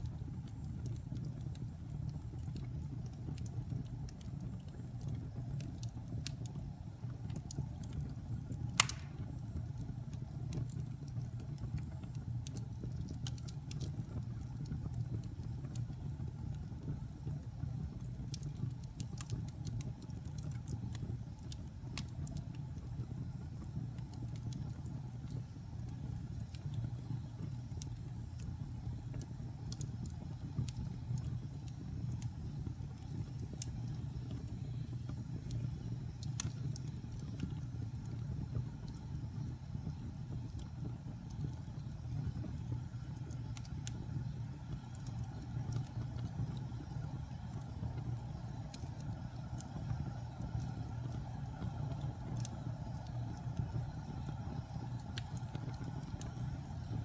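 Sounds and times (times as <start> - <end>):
fire rumbling and crackling: 0.0 - 57.0
fire pop: 0.4 - 16.0, 18.2 - 57.0.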